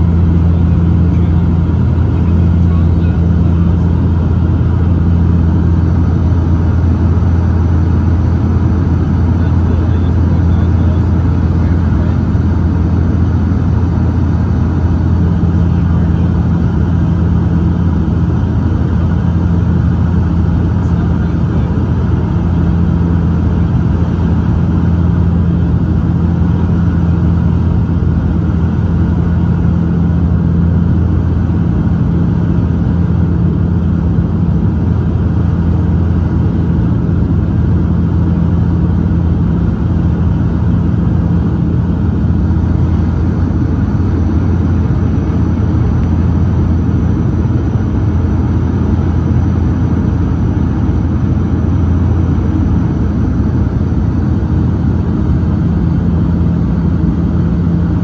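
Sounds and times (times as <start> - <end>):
turboprop engines droning in cabin: 0.0 - 58.0.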